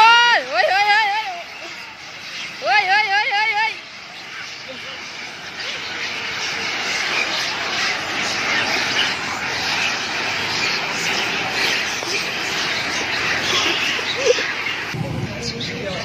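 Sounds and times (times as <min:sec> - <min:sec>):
monkeys screeching: 0:00.0 - 0:16.0.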